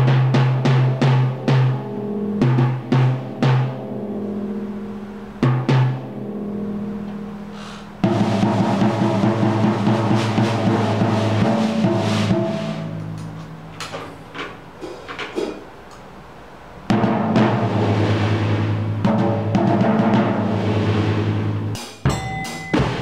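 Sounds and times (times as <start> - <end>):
drum kit playing: 0.0 - 23.0.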